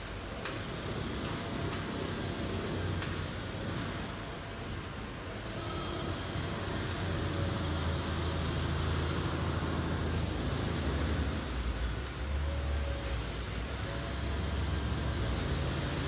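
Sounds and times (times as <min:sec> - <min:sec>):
city noise with low rumble: 0:00.0 - 0:16.0.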